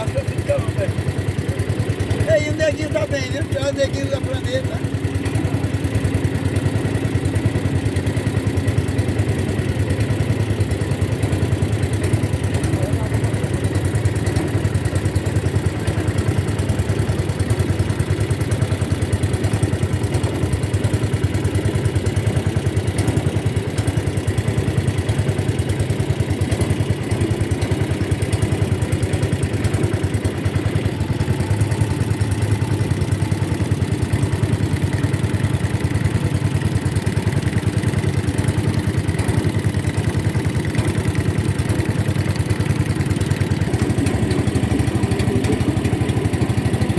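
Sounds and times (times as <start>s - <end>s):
motorboat engine running: 0.0s - 46.9s.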